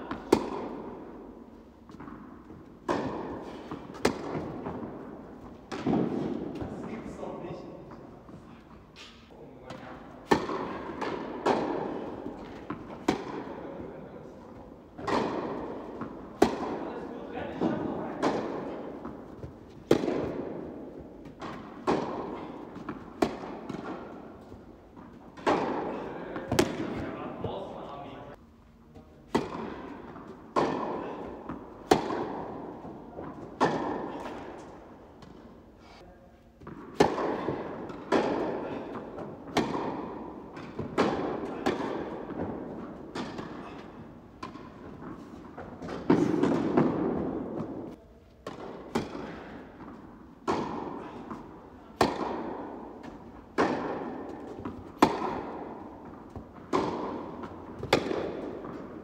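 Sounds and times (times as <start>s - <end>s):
tennis balls bouncing on court: 0.0s - 28.4s, 29.2s - 35.7s, 36.5s - 59.0s
tennis balls struck by rackets: 0.0s - 28.4s, 29.2s - 35.8s, 36.5s - 59.0s.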